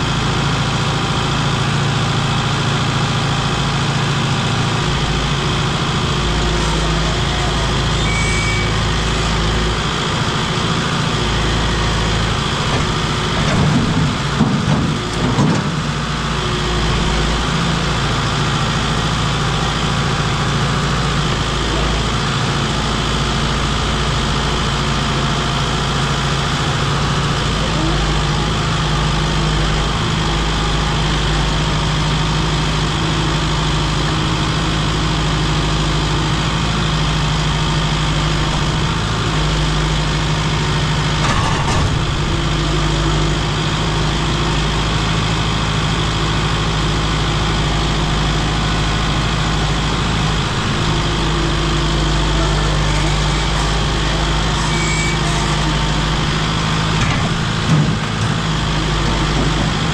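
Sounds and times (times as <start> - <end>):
vehicle engine running steadily: 0.0 - 59.9.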